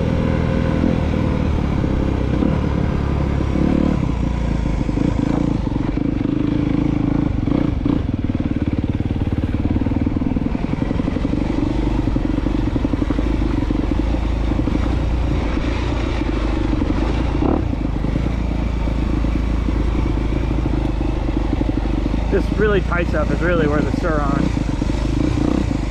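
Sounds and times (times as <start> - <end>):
motorcycle engine at low revs: 0.0 - 25.9.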